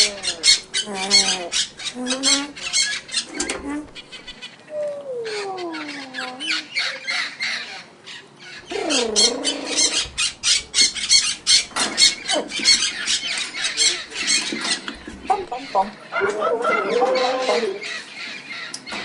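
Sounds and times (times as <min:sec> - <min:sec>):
parrot calls: 0:00.0 - 0:19.0.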